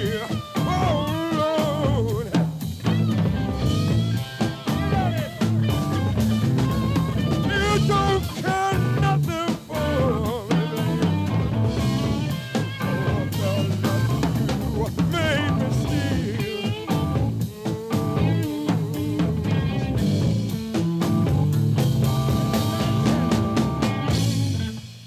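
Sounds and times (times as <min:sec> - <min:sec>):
bending lead guitar melody: 0:00.0 - 0:25.0
live blues-rock band playing: 0:00.0 - 0:25.0.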